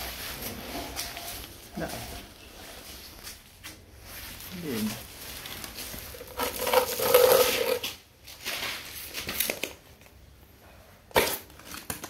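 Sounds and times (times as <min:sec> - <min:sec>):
rustling and handling: 0:00.0 - 0:10.2.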